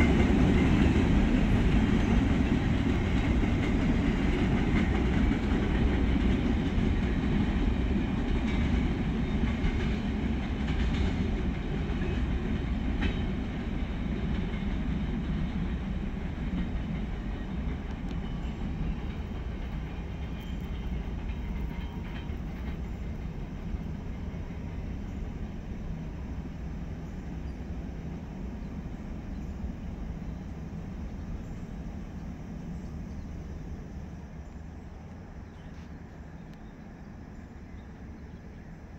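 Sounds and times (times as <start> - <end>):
train wheel clatter: 0.0 - 32.1
freight train rumble: 0.0 - 38.9.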